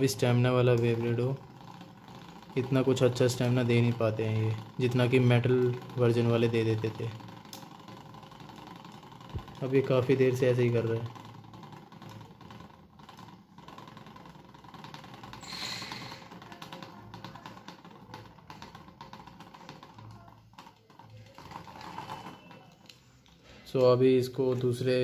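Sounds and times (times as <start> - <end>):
spinning top tip rattling: 0.0 - 25.0
spinning top whirring: 0.0 - 25.0.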